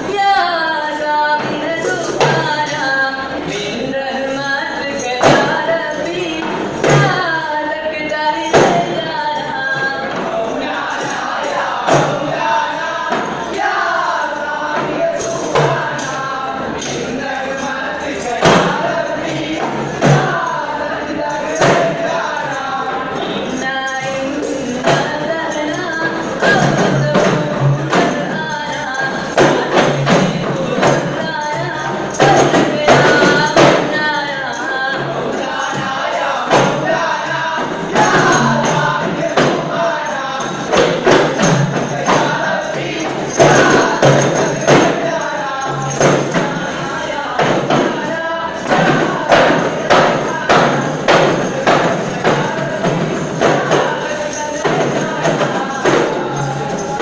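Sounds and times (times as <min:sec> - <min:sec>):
frame drums beating: 0:00.0 - 0:57.0
group chanting: 0:00.0 - 0:57.0.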